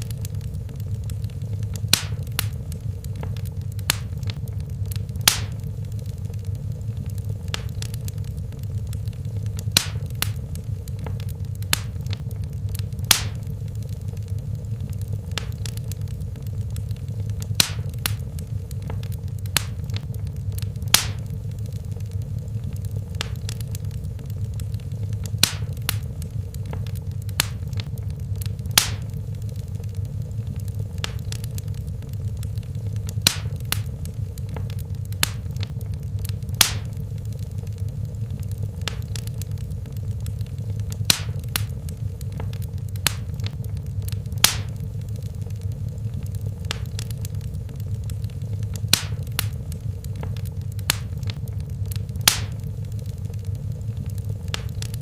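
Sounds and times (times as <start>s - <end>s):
sharp pops of fire: 0.0s - 55.0s
steady low rumble: 0.0s - 55.0s
wood fire crackling: 0.0s - 55.0s.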